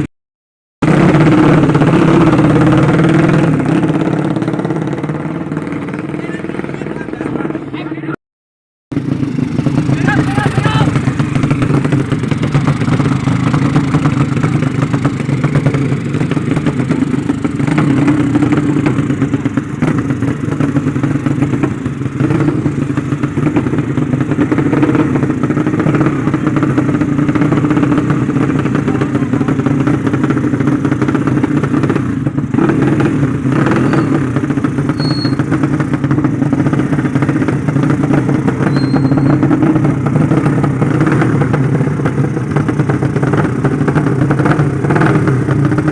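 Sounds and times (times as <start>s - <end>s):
motorcycle engine running: 0.8s - 8.2s, 8.9s - 45.9s.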